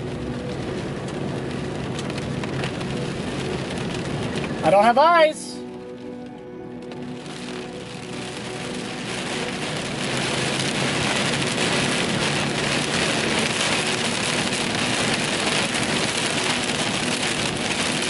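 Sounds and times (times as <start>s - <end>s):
heavy rain on a vehicle: 0.0s - 18.0s.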